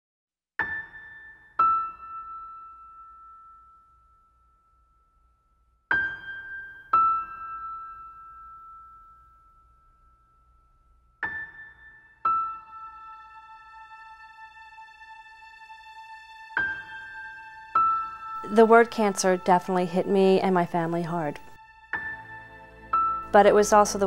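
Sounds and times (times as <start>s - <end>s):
slow sparse piano: 0.6s - 24.0s.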